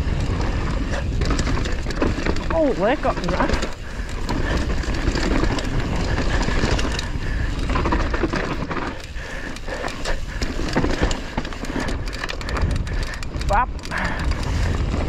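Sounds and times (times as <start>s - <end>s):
bike clicking and rattling: 0.0s - 15.0s
tyres running over dirt: 0.0s - 15.0s
wind rumbling on microphone: 0.0s - 15.0s.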